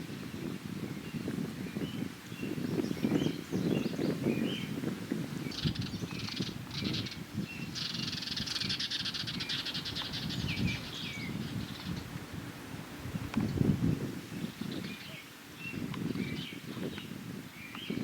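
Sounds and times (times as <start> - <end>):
songbirds chirping: 0.3 - 18.0.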